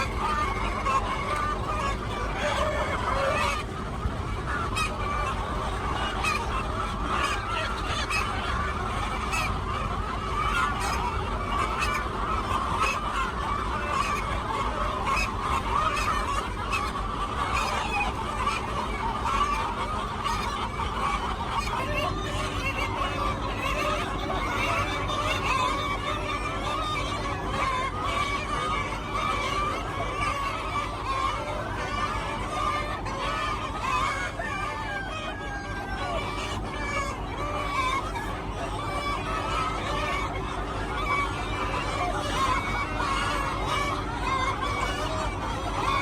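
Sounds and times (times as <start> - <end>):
poultry flock calling: 0.0 - 46.0.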